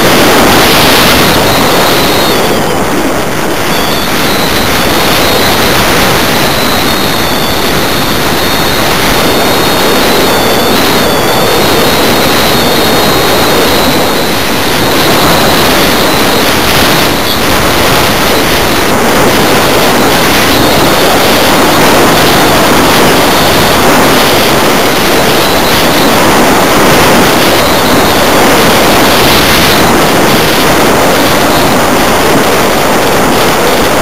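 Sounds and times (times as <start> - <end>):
faint warbling high whine: 0.0 - 34.0
wind rushing over microphone: 0.0 - 34.0.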